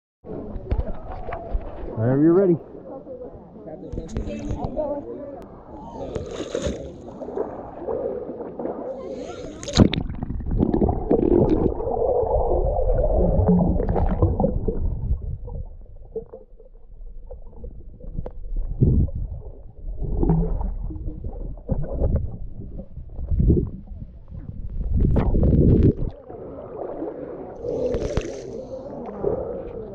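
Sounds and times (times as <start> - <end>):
underwater water gurgling: 2.6 - 29.9
bubbles: 5.8 - 29.9.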